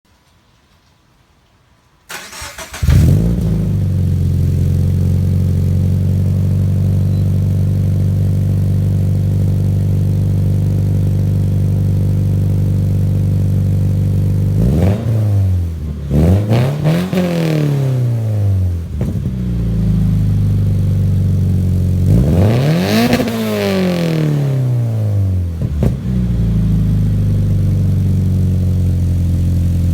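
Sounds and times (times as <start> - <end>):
car engine idling and revving: 2.2 - 29.9.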